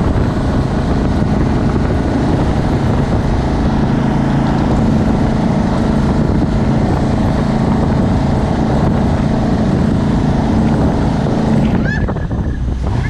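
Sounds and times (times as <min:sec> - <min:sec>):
boat engine droning: 0:00.0 - 0:13.0
rushing water wash: 0:00.0 - 0:13.0.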